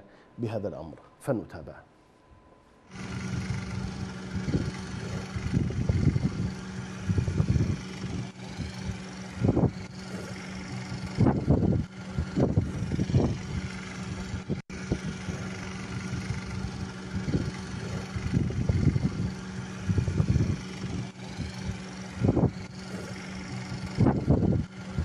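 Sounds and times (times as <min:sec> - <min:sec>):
steady low hum: 0:00.0 - 0:25.0
wind buffeting microphone: 0:03.0 - 0:25.0.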